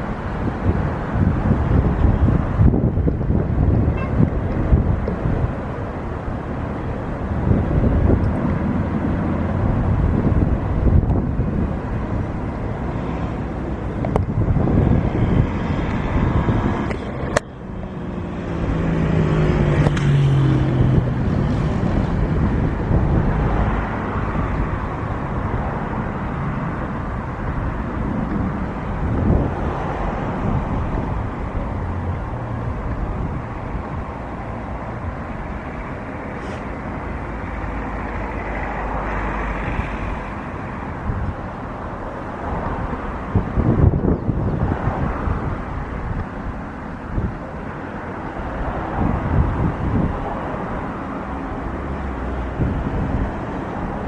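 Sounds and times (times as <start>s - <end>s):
jet airliner engines rumbling: 0.0s - 54.0s
wind buffeting the microphone: 0.0s - 54.0s.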